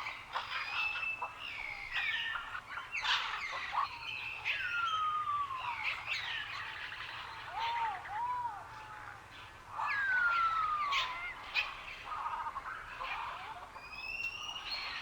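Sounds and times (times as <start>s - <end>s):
birds singing: 0.0s - 15.0s.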